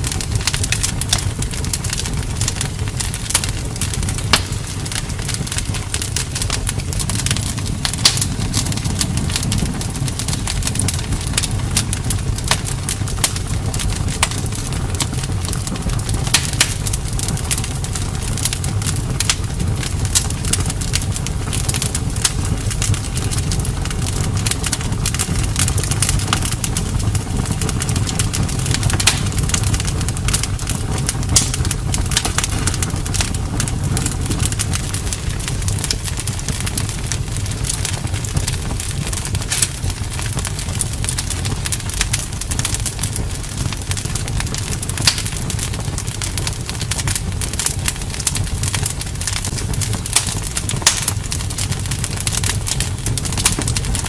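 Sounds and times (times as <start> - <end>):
campfire crackling and popping: 0.0 - 54.0
fire low rumble: 0.0 - 54.0.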